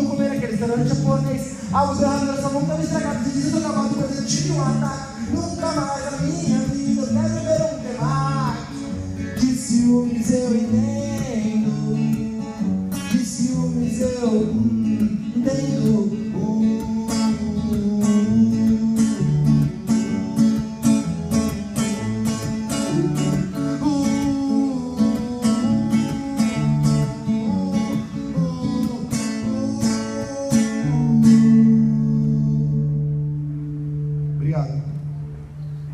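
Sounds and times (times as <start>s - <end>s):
man singing: 0.0s - 33.4s
acoustic guitar strumming: 0.0s - 35.9s.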